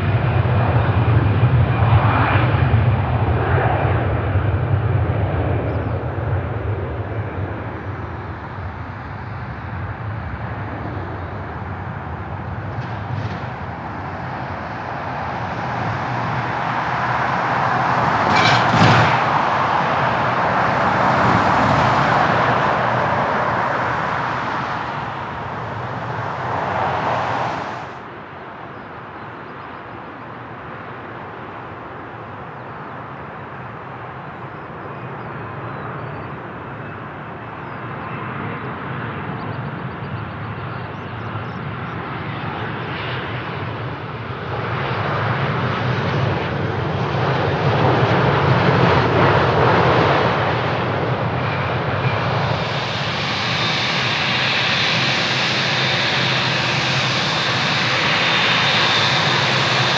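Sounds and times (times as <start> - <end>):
jet engines passing: 0.0 - 59.9.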